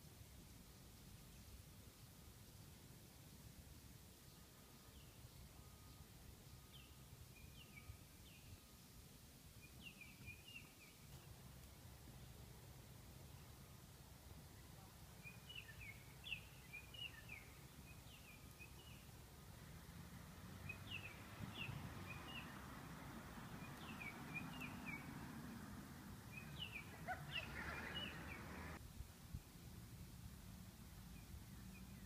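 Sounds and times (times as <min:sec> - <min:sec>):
steady hiss: 0:00.0 - 0:31.9
songbird chirping: 0:03.2 - 0:29.7, 0:30.8 - 0:32.0.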